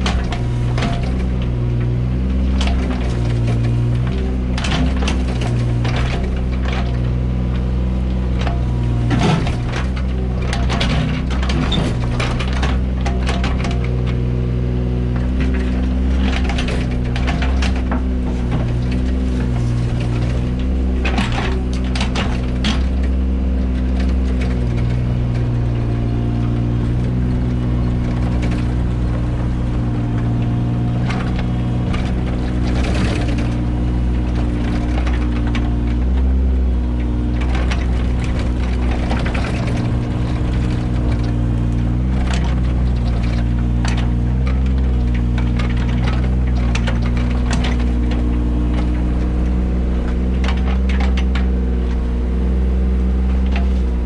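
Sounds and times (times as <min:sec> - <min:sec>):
diesel engine running: 0:00.0 - 0:54.0
digging knocks and scraping: 0:00.0 - 0:54.0.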